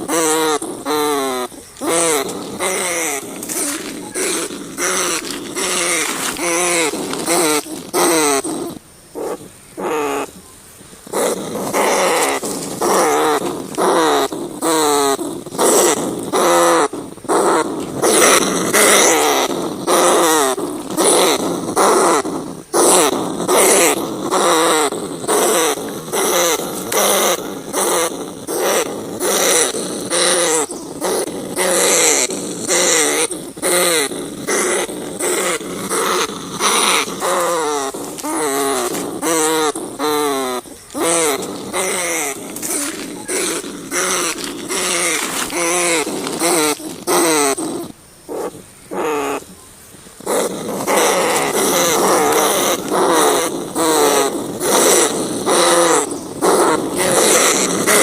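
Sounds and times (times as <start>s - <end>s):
rats squealing: 0.0s - 10.4s, 11.0s - 49.6s, 50.2s - 58.0s.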